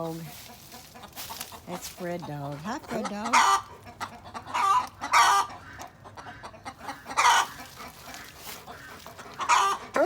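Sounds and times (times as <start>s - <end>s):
chicken clucking: 0.0s - 10.0s.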